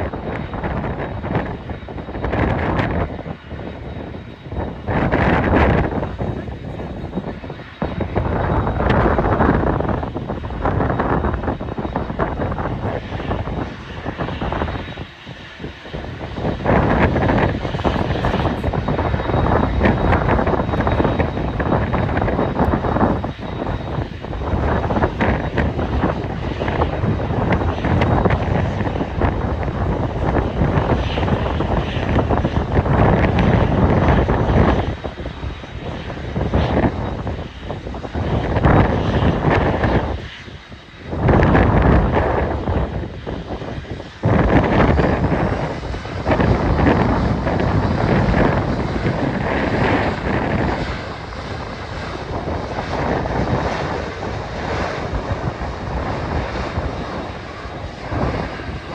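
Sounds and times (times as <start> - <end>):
airliner engine noise: 0.0 - 58.9
wind buffeting microphone: 0.0 - 58.9.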